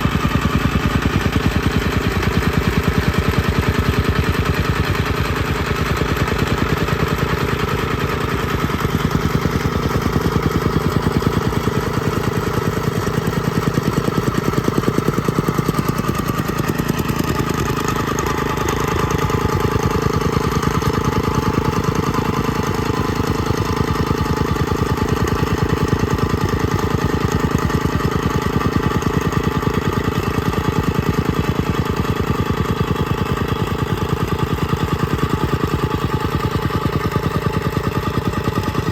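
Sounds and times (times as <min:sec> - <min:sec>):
compactor engine pulsing: 0:00.0 - 0:38.9.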